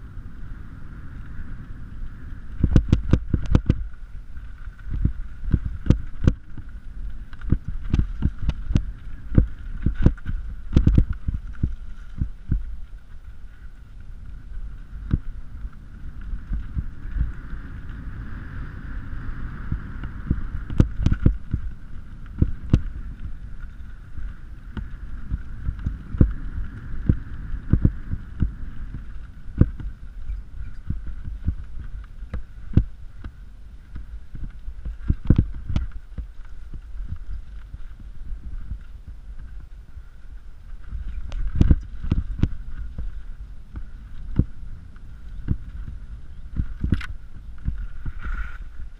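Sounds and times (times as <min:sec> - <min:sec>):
tyres rumbling on dirt trail: 0:00.0 - 0:48.9.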